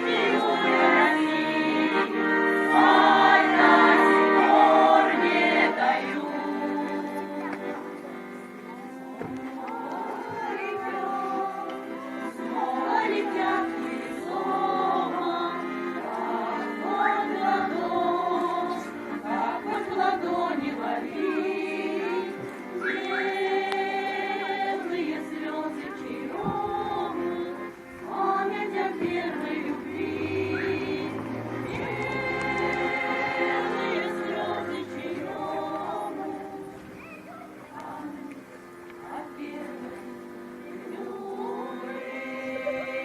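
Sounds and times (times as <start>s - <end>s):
choir singing: 0.0s - 43.0s
musical accompaniment: 0.0s - 43.0s.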